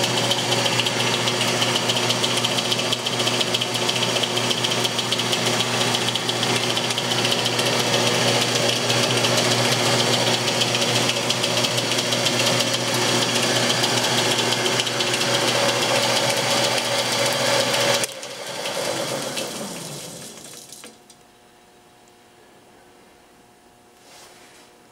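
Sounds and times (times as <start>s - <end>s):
metal lathe running: 0.0s - 20.9s.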